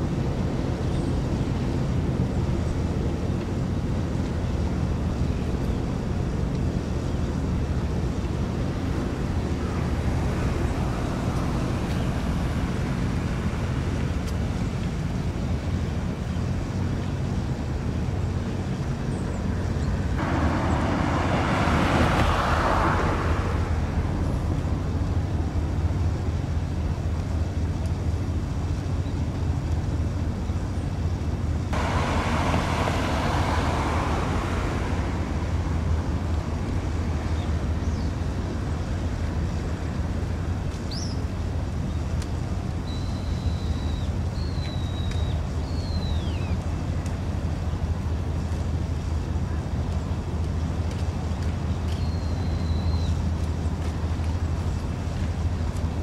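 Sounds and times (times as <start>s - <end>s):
vehicles whooshing by: 0.0s - 28.7s, 31.3s - 56.0s
low traffic rumble: 0.0s - 56.0s.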